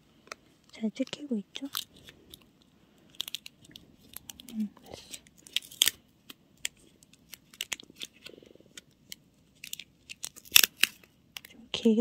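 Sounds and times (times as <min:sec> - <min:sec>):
sticky tape clicks and crackles: 0:00.2 - 0:11.6.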